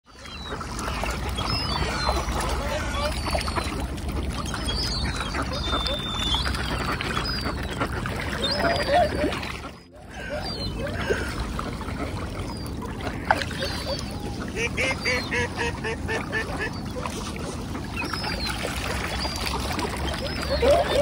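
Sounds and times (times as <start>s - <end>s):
ducks quacking: 0.1s - 21.0s
swans honking: 0.3s - 21.0s.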